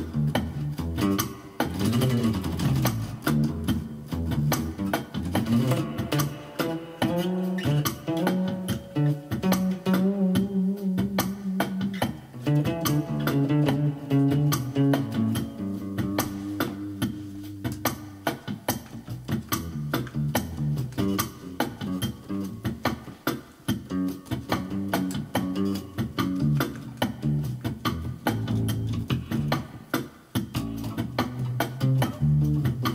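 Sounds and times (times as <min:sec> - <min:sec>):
electric bass line: 0:00.0 - 0:23.1, 0:23.7 - 0:32.9
drum machine beat: 0:00.0 - 0:32.9.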